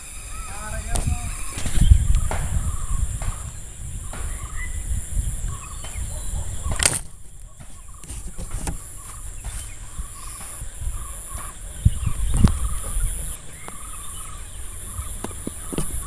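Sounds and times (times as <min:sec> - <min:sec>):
steady high whine: 0:00.0 - 0:16.0.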